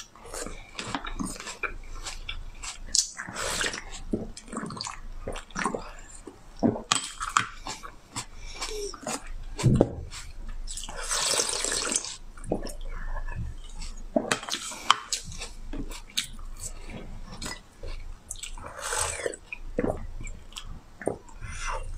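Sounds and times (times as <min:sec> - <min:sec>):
wet slurping: 0:00.0 - 0:06.1, 0:07.2 - 0:21.9.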